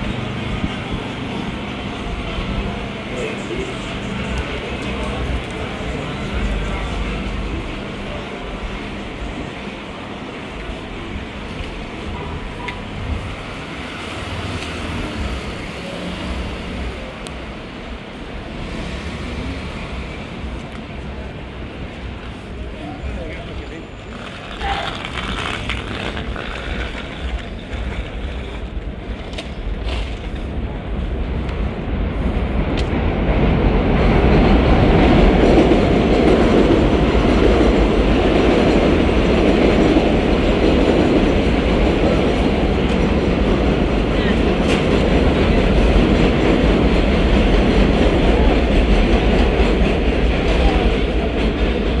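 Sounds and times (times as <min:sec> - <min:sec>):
train rumbling on steel viaduct: 0:00.0 - 0:52.0.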